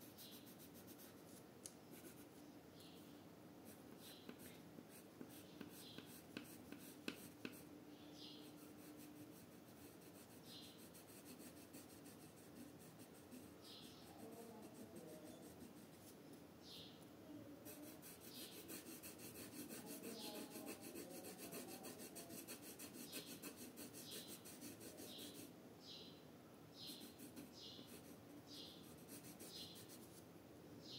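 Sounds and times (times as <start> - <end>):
pencil scratching on paper: 0.0 - 2.4, 3.7 - 16.2, 17.6 - 25.5, 26.8 - 30.2.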